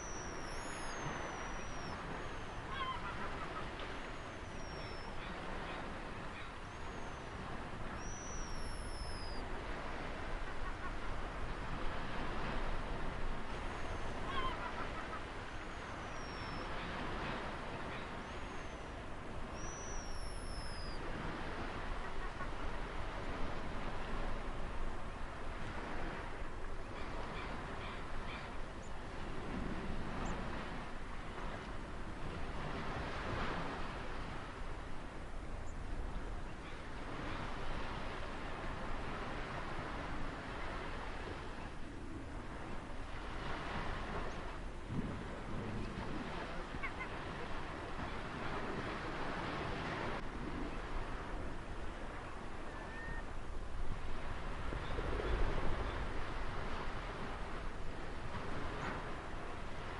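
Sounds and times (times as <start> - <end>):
ocean waves breaking: 0.0 - 59.9
wind: 0.0 - 59.9.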